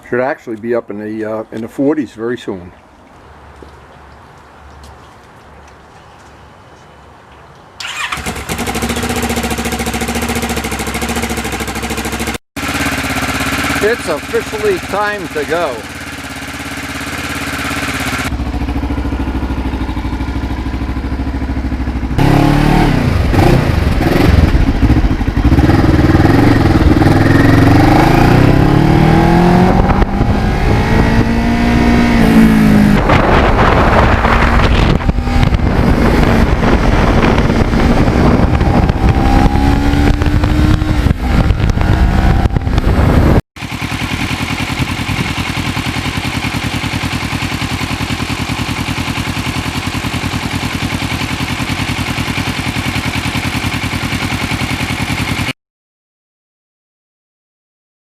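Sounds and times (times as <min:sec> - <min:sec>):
motorcycle engine revving: 0:07.8 - 0:55.6.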